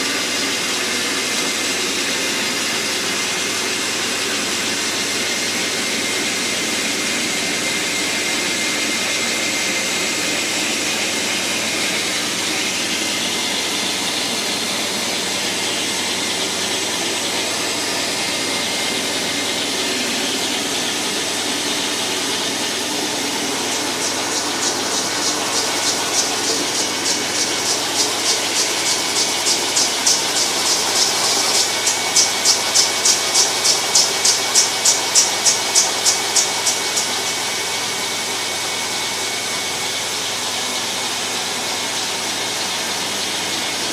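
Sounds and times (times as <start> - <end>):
carpet extractor running: 0.0 - 43.9
rhythmic pulsing hiss: 0.0 - 43.9.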